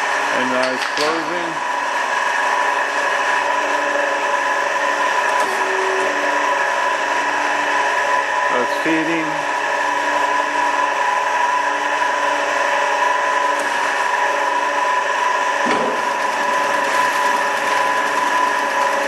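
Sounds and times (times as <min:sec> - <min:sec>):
band saw whining: 0:00.0 - 0:19.0.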